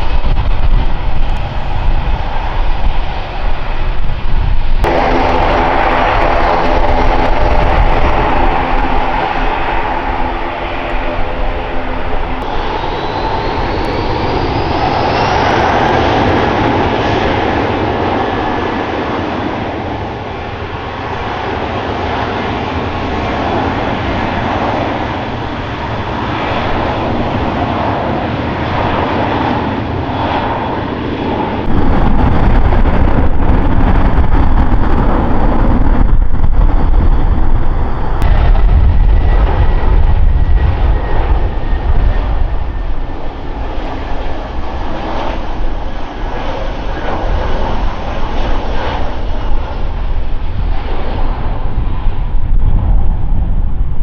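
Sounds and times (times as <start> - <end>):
deep engine rumble: 0.0 - 21.6, 31.6 - 54.0
airliner engines whining: 0.0 - 54.0.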